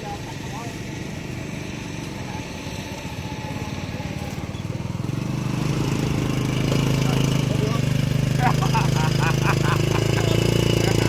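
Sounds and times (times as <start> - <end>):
combine harvester diesel engine: 0.0 - 11.0.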